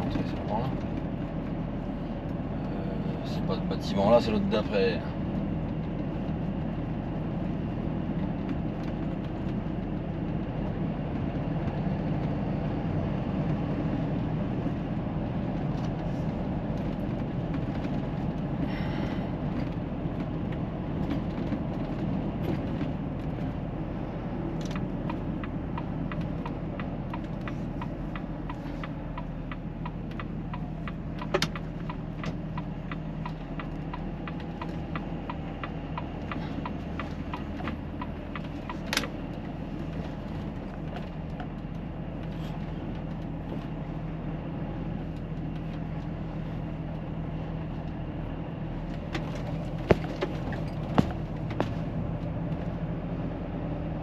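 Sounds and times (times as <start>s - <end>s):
road noise: 0.0s - 54.0s
truck engine drone: 0.0s - 54.0s.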